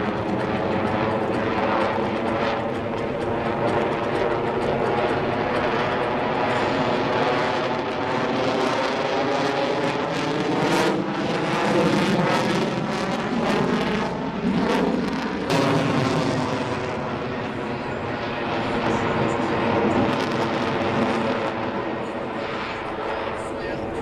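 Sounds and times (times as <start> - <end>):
aircraft engine running: 0.0 - 24.0.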